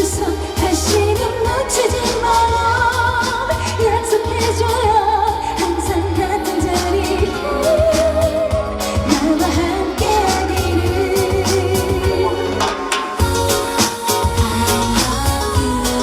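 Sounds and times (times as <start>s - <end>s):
backing track with bass and drums: 0.0s - 16.0s
woman singing: 0.0s - 16.0s.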